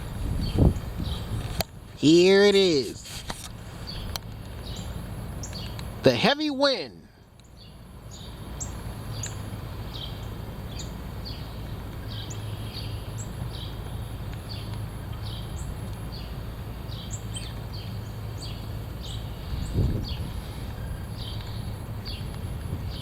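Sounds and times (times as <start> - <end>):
songbird chirping: 0.0 - 3.1, 3.7 - 23.0
wind rumbling on microphone: 0.0 - 6.1, 8.1 - 23.0.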